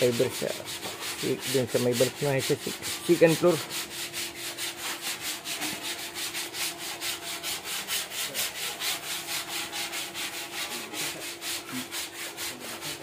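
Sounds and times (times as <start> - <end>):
rhythmic rubbing or scraping: 0.0 - 13.0.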